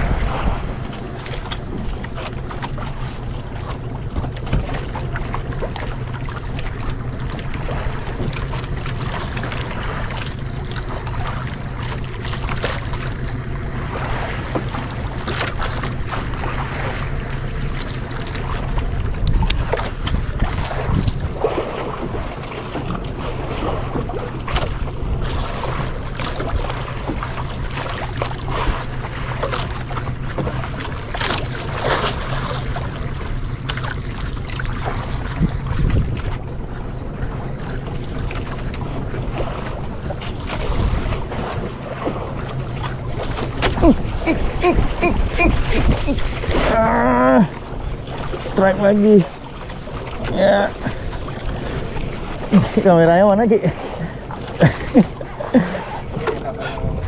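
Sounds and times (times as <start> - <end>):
boat engine running: 0.0 - 57.0
water splashing against hull: 0.0 - 57.0
wind buffeting microphone: 0.0 - 57.0.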